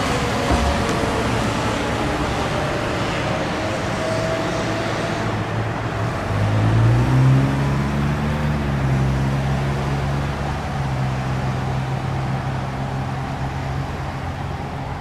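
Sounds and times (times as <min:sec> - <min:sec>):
fire engine diesel engine: 0:00.0 - 0:15.0
road and traffic noise: 0:00.0 - 0:15.0.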